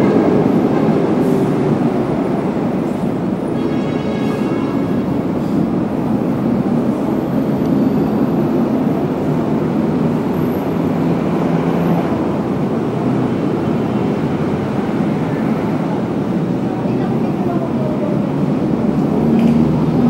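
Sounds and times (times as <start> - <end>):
busy road traffic: 0.0 - 20.0.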